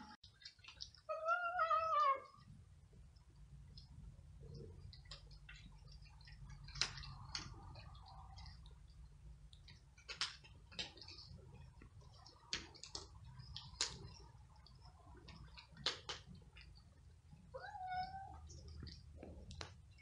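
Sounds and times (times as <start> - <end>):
low steady hum: 0.0 - 20.0
cats crunching dry kibble: 0.2 - 1.1, 3.3 - 20.0.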